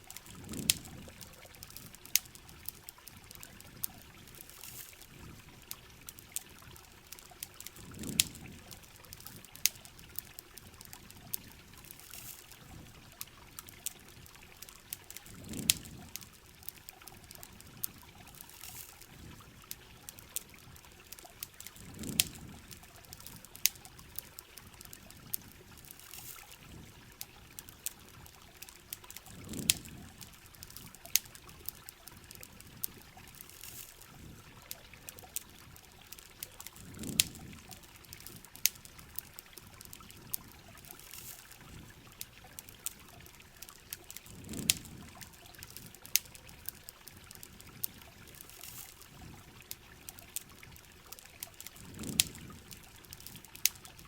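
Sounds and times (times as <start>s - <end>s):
campfire crackling and popping: 0.0s - 54.0s
rain: 0.0s - 54.0s
trickling water: 0.0s - 54.0s.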